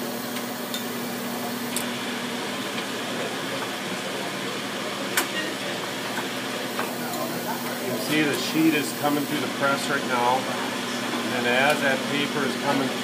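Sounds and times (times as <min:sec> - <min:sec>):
printing press humming and hissing: 0:00.0 - 0:13.0.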